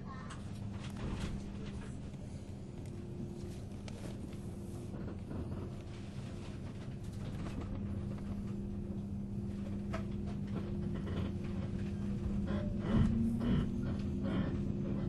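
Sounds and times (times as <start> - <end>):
steady electrical hum: 0.0 - 15.0
train low rumble: 0.0 - 15.0.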